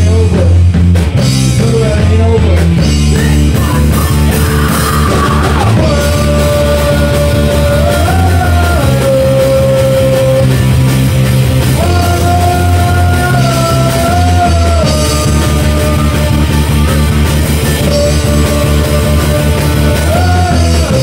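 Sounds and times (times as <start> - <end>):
bass guitar: 0.0 - 21.0
drum kit: 0.0 - 21.0
electric guitars: 0.0 - 21.0.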